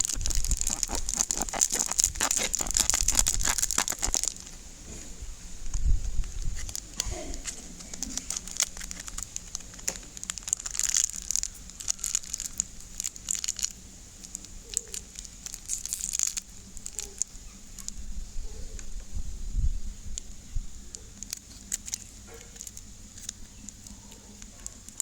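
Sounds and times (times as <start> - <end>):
crinkling and crackling: 0.0 - 19.2, 20.0 - 25.0.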